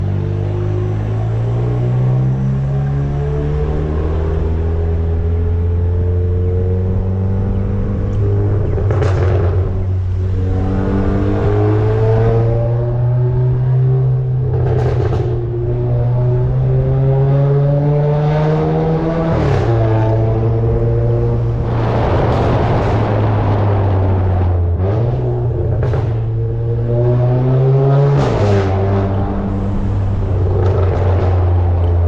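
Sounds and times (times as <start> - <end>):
car engine at raised revs: 0.0 - 32.0.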